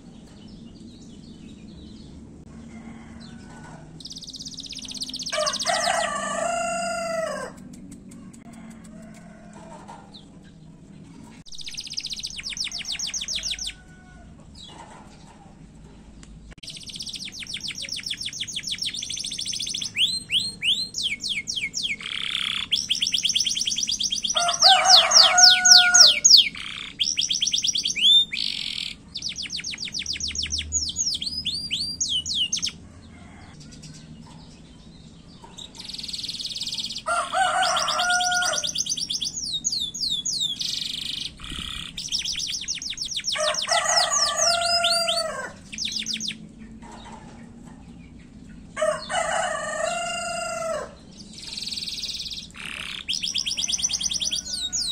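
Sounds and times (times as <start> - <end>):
canary singing trills: 3.2 - 7.7, 11.4 - 15.2, 16.6 - 54.9.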